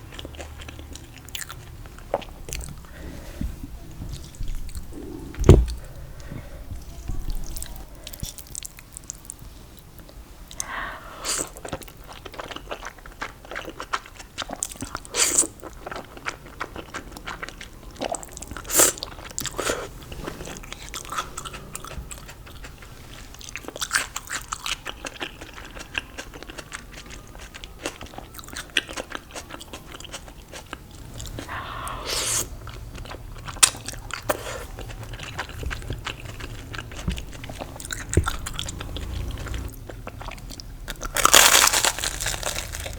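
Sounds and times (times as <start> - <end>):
crunchy food chewing: 0.0 - 3.0, 11.3 - 42.9.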